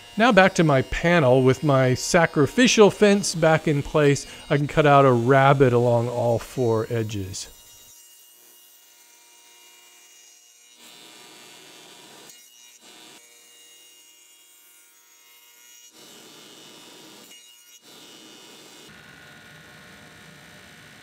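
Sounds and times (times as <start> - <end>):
power tool whine: 0.0 - 21.0
wood cutting noise: 0.0 - 21.0.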